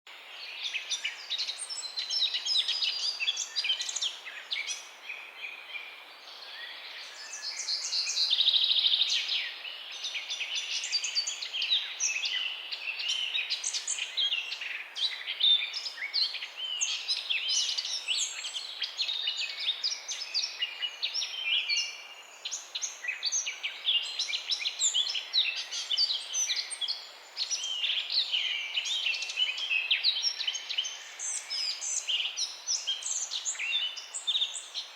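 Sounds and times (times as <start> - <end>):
faint background hiss: 0.1 - 34.9
small birds chirping: 0.1 - 34.9.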